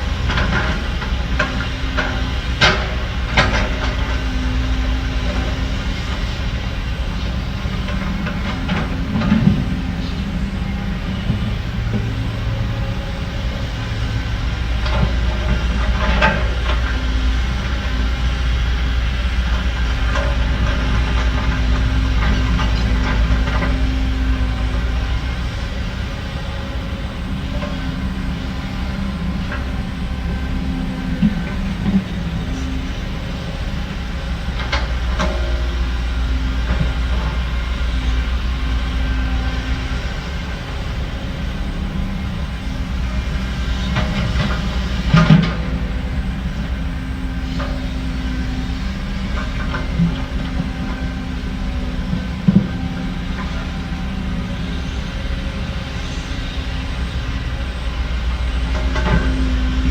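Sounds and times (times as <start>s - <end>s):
diesel construction machinery running: 0.0s - 59.9s.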